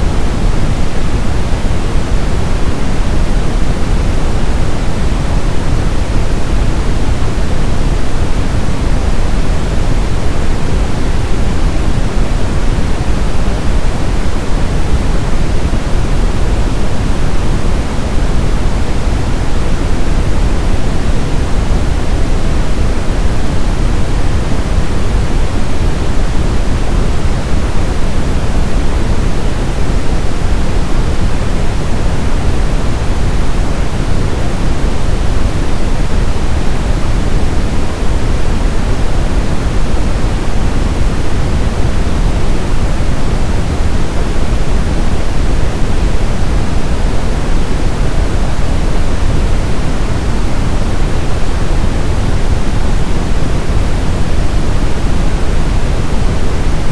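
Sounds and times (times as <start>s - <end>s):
brown noise: 0.0s - 56.9s.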